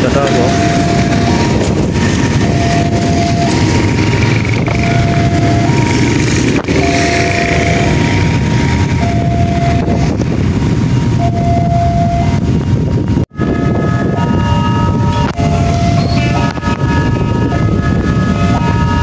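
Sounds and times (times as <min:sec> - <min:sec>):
higher alarm tones: 0:00.0 - 0:19.0
level crossing alarm two-tone: 0:00.1 - 0:10.3, 0:11.1 - 0:12.5, 0:13.4 - 0:19.0
low rumble: 0:00.2 - 0:19.0.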